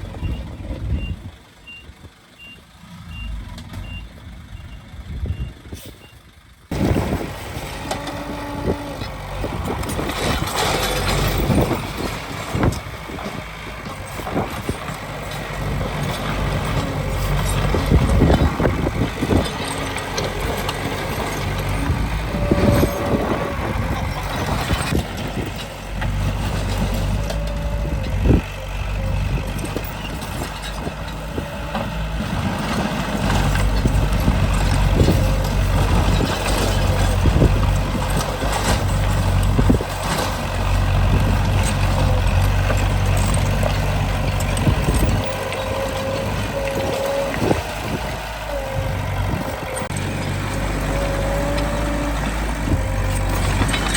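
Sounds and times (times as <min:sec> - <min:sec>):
heavy diesel machinery engines: 0:00.0 - 0:53.9.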